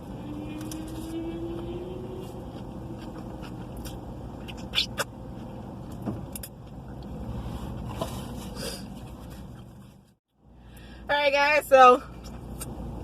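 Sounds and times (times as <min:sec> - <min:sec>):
car engine hum inside cabin: 0:00.0 - 0:13.0.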